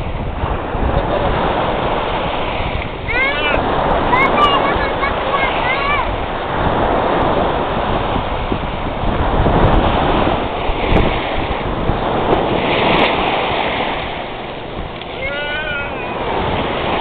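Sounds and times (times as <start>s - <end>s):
sea surf washing onto shore: 0.0s - 17.0s
wind buffeting microphone: 0.0s - 17.0s.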